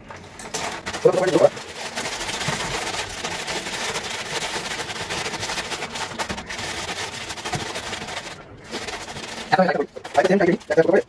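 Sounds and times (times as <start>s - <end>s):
chip packet crinkling: 0.2s - 11.0s
chips crunching: 0.4s - 11.0s.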